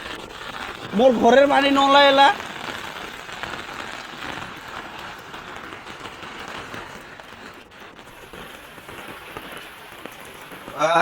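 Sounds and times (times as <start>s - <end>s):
steady rain pattering: 0.0s - 11.0s.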